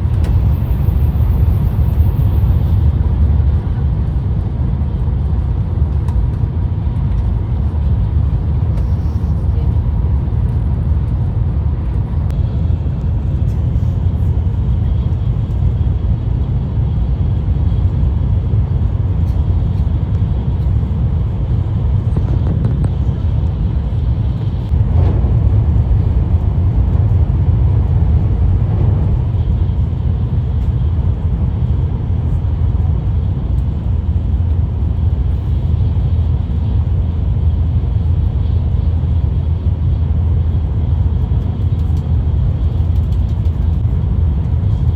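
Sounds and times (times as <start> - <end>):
train running rumble: 0.0 - 44.9.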